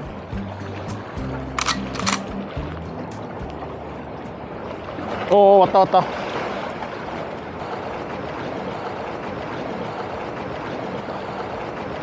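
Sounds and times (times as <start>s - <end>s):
choppy water: 0.0s - 12.0s.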